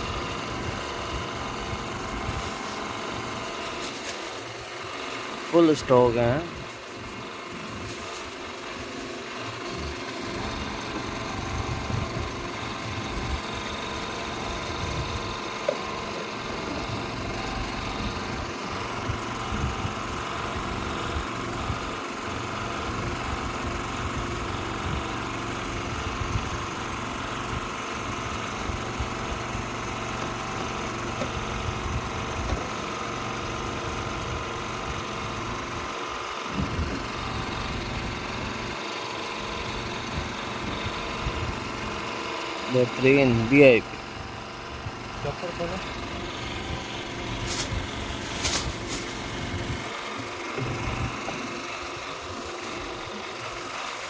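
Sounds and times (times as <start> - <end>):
small engine humming: 0.0 - 54.0.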